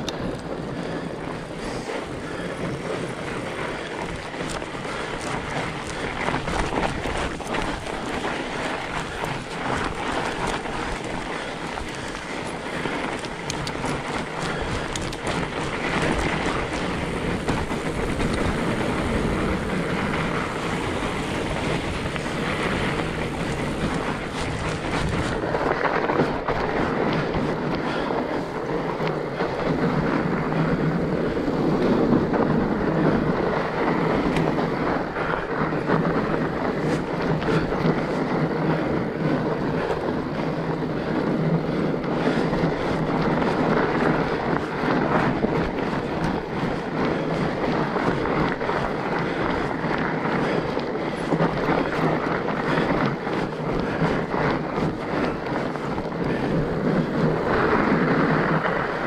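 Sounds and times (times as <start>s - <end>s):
bike tyres rumbling and rattling: 0.0s - 59.0s.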